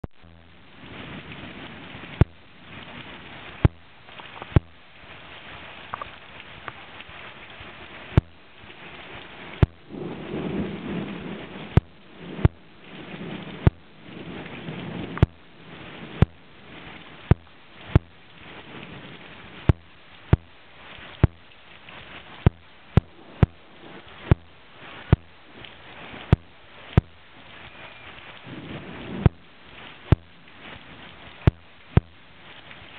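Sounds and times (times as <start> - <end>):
rain hiss: 0.1 - 32.9
thunder rumbling: 0.1 - 32.9.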